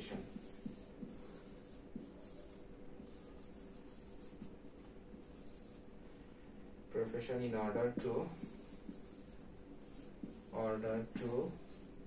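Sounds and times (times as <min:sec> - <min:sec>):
handwriting scratching on a board: 0:00.0 - 0:05.8, 0:07.8 - 0:12.0.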